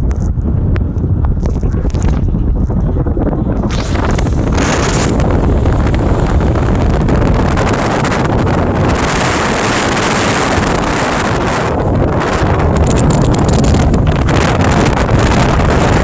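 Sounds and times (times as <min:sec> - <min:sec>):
low car rumble: 0:00.0 - 0:16.0
wind buffeting microphone: 0:00.0 - 0:16.0.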